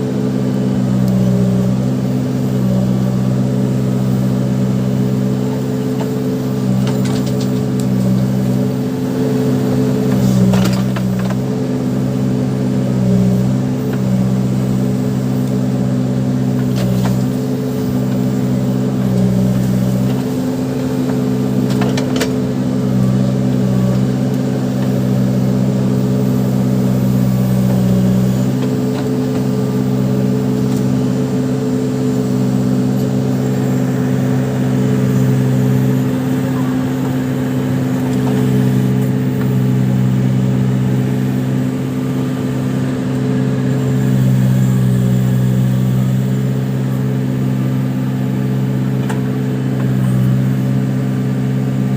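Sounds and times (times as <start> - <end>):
backhoe diesel engine running: 0.0 - 51.9.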